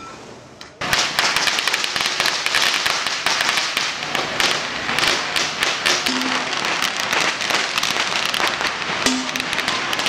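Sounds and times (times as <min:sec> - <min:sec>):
firecrackers crackling: 0:00.8 - 0:10.0.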